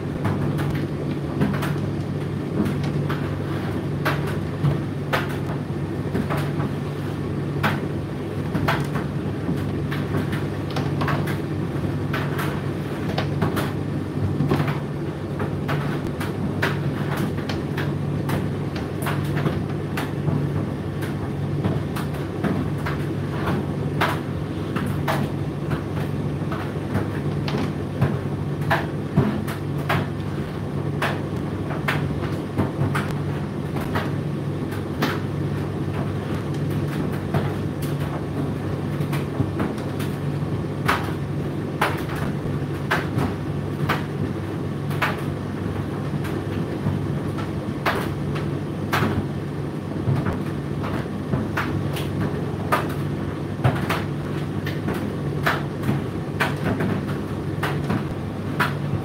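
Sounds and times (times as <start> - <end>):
tumble dryer humming: 0.0 - 59.0.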